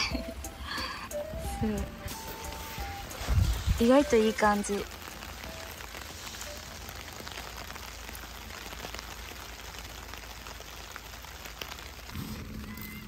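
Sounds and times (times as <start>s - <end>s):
steady rain patter: 0.0s - 13.0s.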